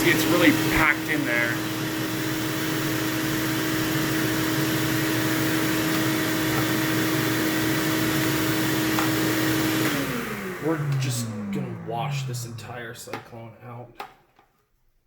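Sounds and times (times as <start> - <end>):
vacuum cleaner running: 0.0 - 13.2.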